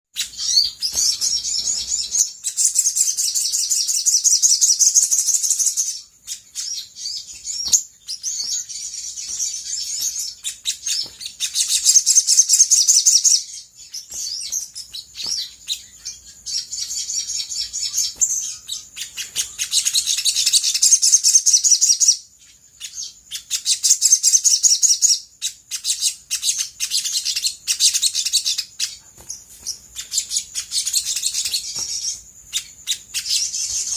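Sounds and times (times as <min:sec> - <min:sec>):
bird singing high trills: 0:00.2 - 0:33.9.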